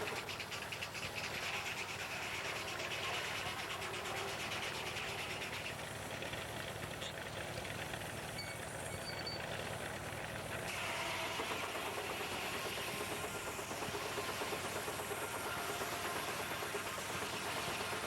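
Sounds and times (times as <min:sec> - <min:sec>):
steam-driven sawmill running: 0:00.0 - 0:18.0.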